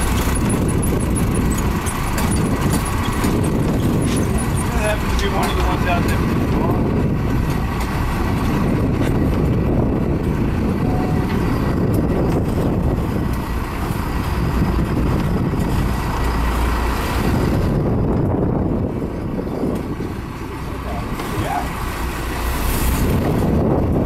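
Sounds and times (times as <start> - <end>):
boat engine droning: 0.0 - 24.0
water rushing along hull: 0.0 - 24.0.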